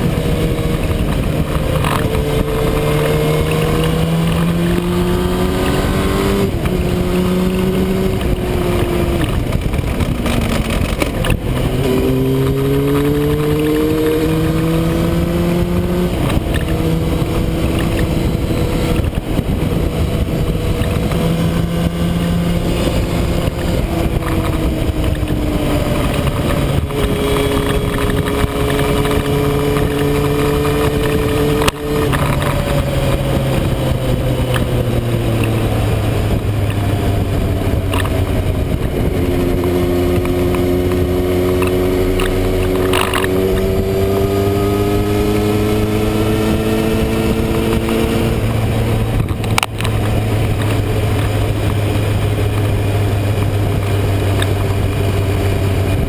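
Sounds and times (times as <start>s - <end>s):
motorcycle engine revving: 0.0s - 56.0s
wind rush over microphone: 0.0s - 56.0s.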